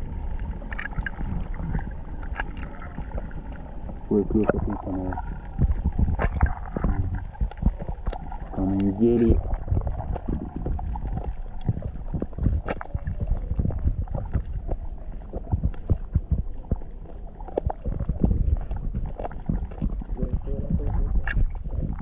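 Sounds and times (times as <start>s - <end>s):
muffled underwater churning: 0.0s - 22.0s
underwater knocks and thuds: 0.0s - 22.0s.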